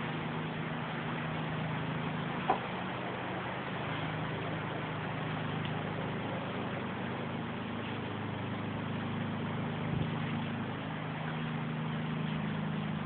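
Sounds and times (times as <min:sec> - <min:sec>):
low mechanical hum: 0:00.0 - 0:13.0
torrential rain hissing: 0:00.0 - 0:13.0.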